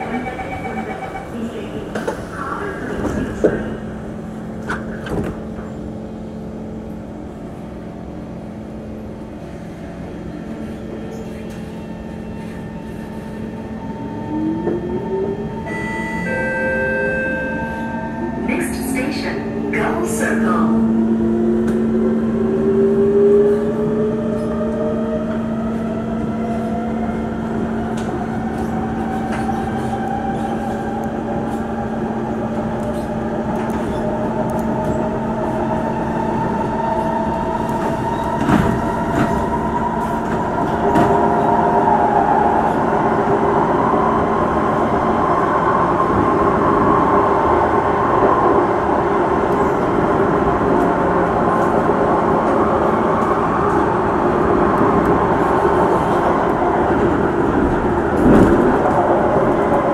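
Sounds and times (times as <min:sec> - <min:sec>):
train wheels rumbling on rails: 0:00.0 - 0:15.7, 0:17.7 - 0:59.9.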